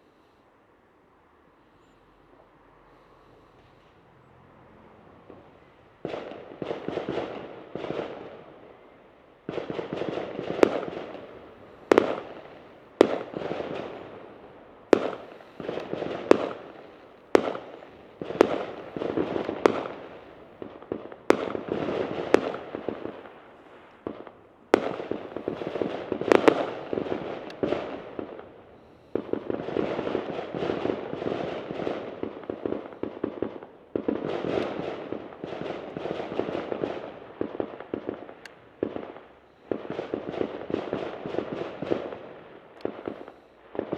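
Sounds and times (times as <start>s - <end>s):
fireworks bangs and crackling: 4.9s - 43.9s.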